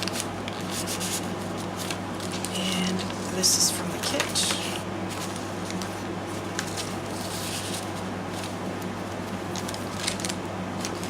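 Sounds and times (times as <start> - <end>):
paper rustling and tapping: 0.0 - 3.2, 4.0 - 8.9, 9.5 - 11.0
air conditioner humming: 0.0 - 11.0.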